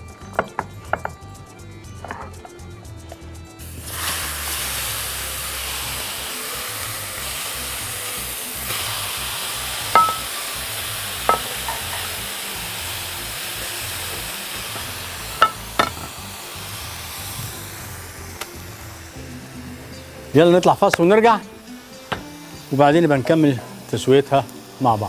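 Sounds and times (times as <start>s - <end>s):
chicken sizzling on a grill pan: 2.6s - 25.0s.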